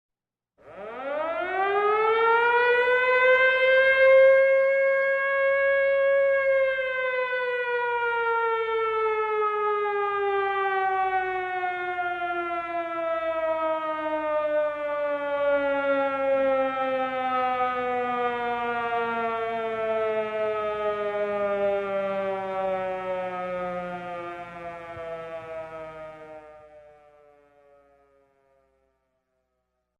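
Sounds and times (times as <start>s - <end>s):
siren wailing: 0.6s - 28.8s.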